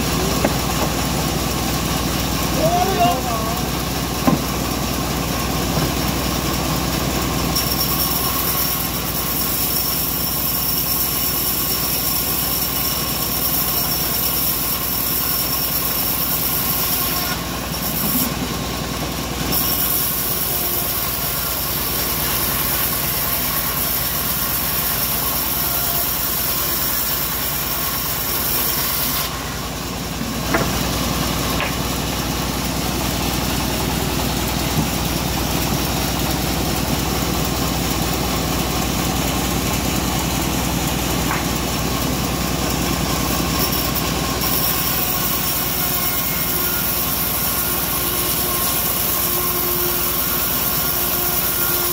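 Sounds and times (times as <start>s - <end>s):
bandsaw mill sawing wood: 0.0s - 51.9s.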